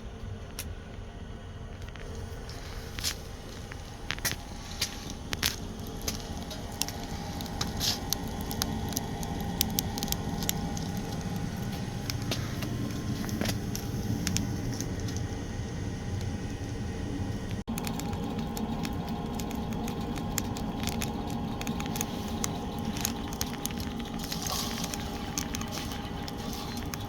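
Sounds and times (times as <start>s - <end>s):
exhaust fan humming: 0.0s - 27.0s
wood fire crackling and popping: 1.7s - 27.0s.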